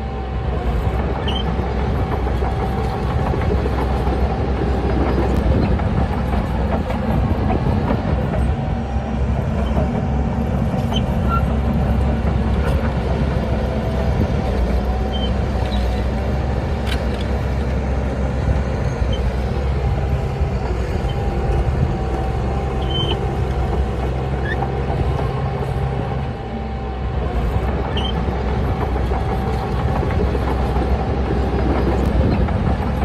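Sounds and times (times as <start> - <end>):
diesel engine rumble: 0.0 - 33.0.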